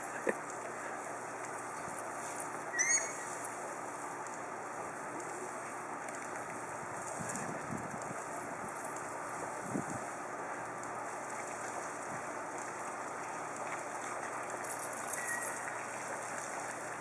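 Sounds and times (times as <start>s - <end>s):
garden hose water spraying: 0.0s - 17.0s.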